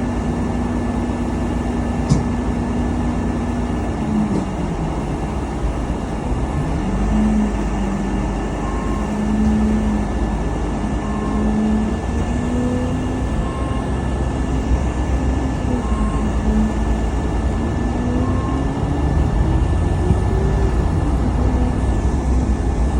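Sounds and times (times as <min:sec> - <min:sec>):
engine hum: 0:00.0 - 0:22.9
road rumble inside car: 0:00.0 - 0:22.9.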